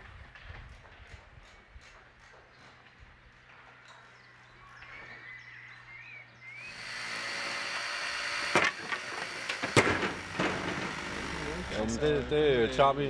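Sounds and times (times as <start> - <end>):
steady outdoor background: 0.0 - 13.0.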